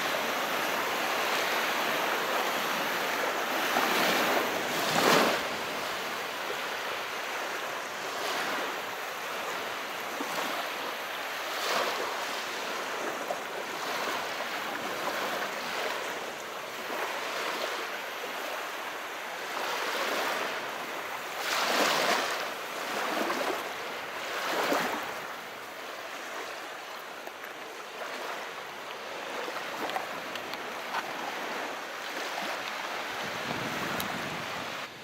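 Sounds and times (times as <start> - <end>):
calm sea waves: 0.0 - 35.0.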